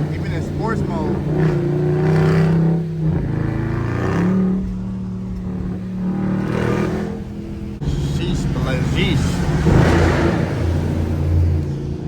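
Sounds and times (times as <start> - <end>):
engine accelerating hard: 0.0 - 12.0.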